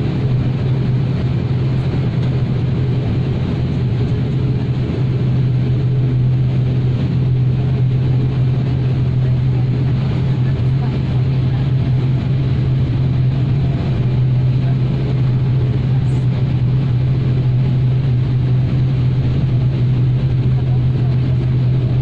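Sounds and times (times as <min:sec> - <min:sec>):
aircraft engines humming: 0:00.0 - 0:22.0
broad rushing noise: 0:00.0 - 0:22.0.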